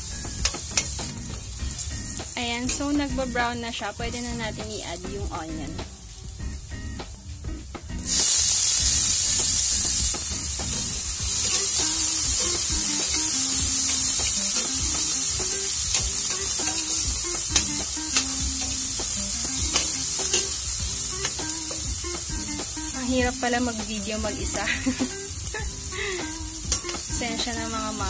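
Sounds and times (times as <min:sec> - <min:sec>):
onion sizzling in hot oil: 0:00.0 - 0:28.0.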